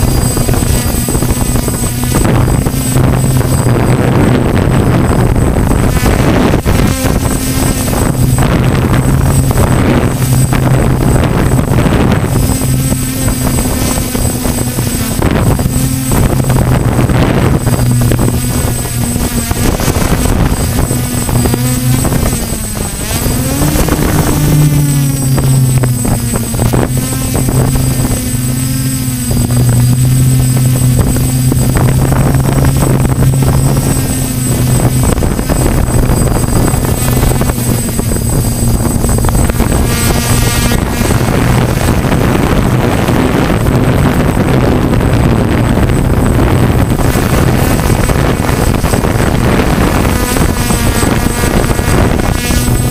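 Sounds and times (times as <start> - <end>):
drone motors humming: 0.0 - 52.9
rushing noise: 0.0 - 52.9.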